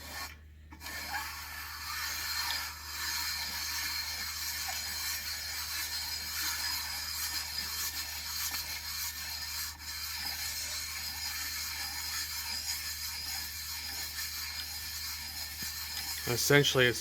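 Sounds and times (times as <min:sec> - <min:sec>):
lapping tool gritty rubbing: 0:00.0 - 0:17.0.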